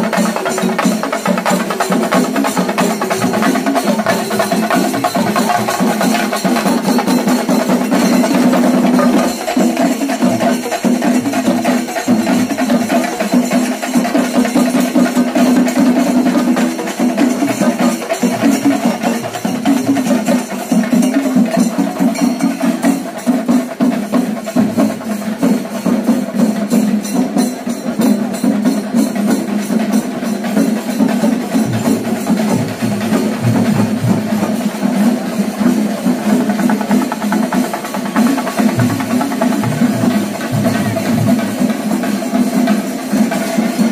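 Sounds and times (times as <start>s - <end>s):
drum ensemble playing fast rhythm: 0.0s - 43.9s.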